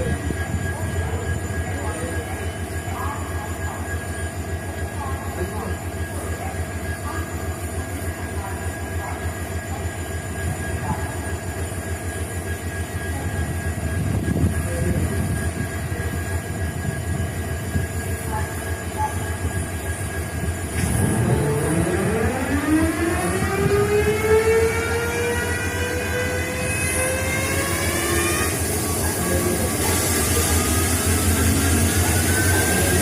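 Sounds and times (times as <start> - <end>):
diesel locomotive engine rumble: 0.0 - 33.0
rising engine whine: 0.0 - 33.0.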